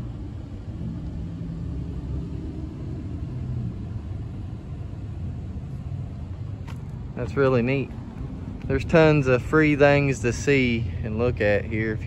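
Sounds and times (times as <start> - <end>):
faint hum: 0.0 - 12.0
low rumble of vehicle engines: 0.0 - 12.0.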